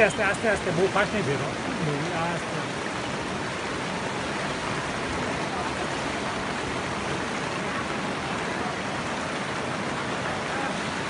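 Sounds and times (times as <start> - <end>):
falling rain: 0.0 - 11.0
flood torrent rushing: 0.0 - 11.0.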